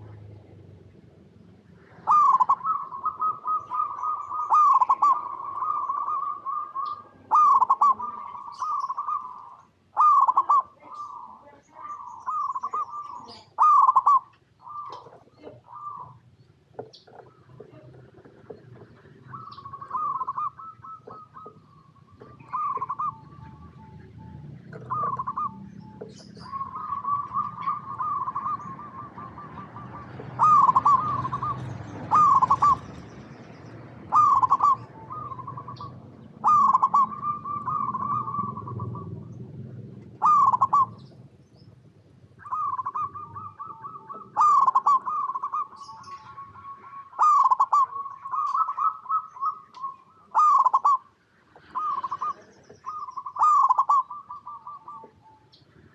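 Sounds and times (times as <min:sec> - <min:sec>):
doves cooing: 0:00.0 - 0:55.9
faint high bird chirps: 0:02.1 - 0:17.8, 0:18.5 - 0:39.2, 0:42.4 - 0:55.8.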